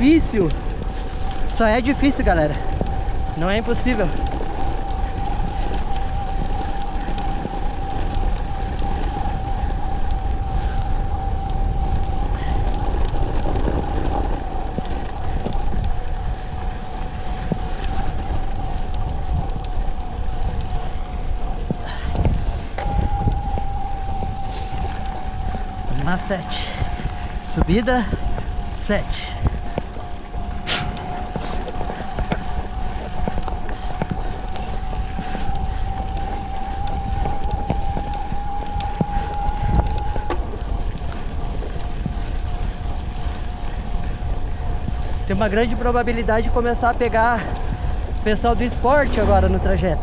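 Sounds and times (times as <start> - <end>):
electric motor steady whine: 0.0 - 50.0
wind buffeting microphone: 0.0 - 50.0.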